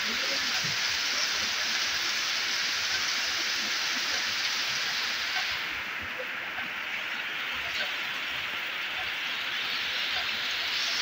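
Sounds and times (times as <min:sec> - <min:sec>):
heavy rain on a flooded street: 0:00.0 - 0:11.0.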